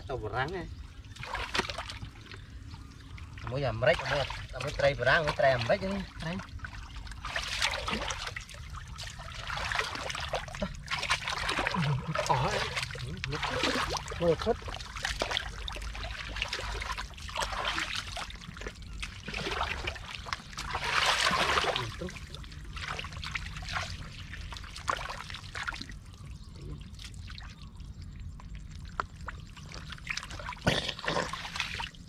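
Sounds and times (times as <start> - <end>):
water splashing and pouring: 0.9 - 32.0.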